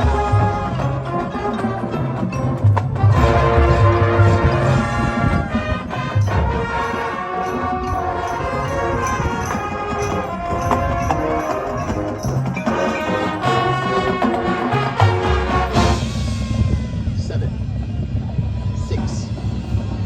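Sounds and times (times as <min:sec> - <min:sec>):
marching band playing: 0:00.0 - 0:17.2.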